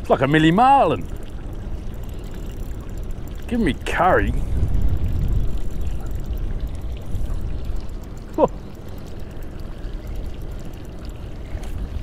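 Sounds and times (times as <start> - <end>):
steady low rumble: 0.0 - 12.0
water sloshing around a boat: 0.0 - 12.0.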